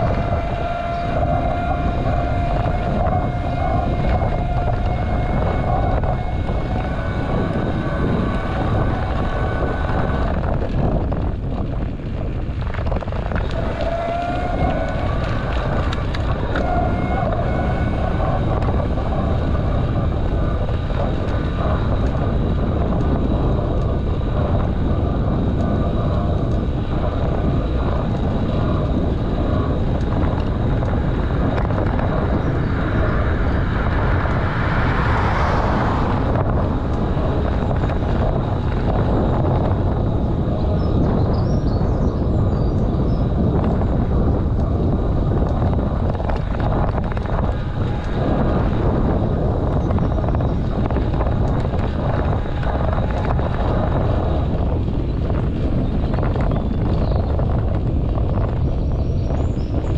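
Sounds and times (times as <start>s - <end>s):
whining tone: 0.0s - 59.9s
wind buffeting microphone: 0.0s - 59.9s.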